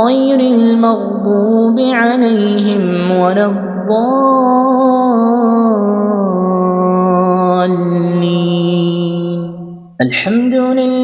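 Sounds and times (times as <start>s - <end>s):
man reciting holding long vowel: 0.0s - 11.0s.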